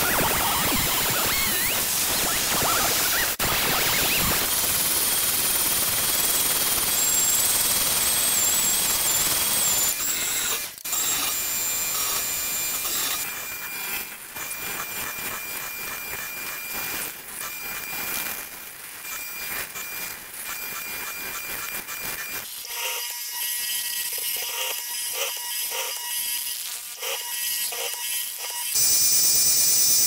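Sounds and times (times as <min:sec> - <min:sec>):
power tool cutting wood: 0:00.0 - 0:30.0.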